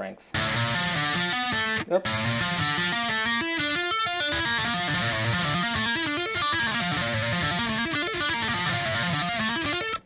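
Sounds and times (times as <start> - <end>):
distorted electric guitar run: 0.4 - 10.0.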